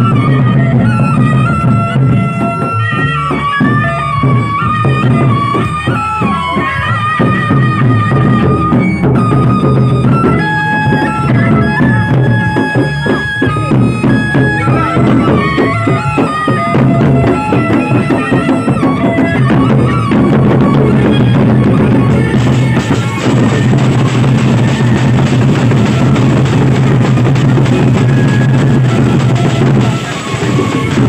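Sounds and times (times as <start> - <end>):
large barrel drums beaten: 0.0 - 31.0
melody of held notes: 0.0 - 31.0.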